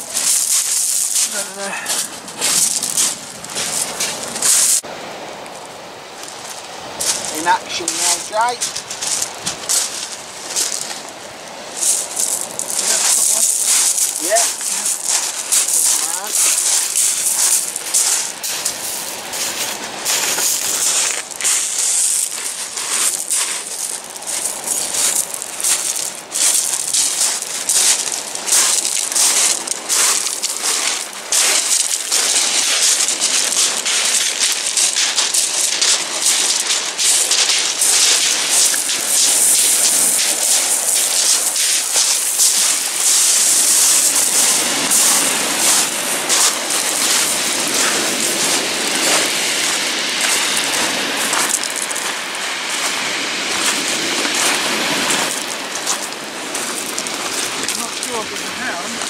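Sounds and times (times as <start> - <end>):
pebbles crackling: 0.0 - 4.8, 6.4 - 59.0
surf on a shingle beach: 0.0 - 59.0.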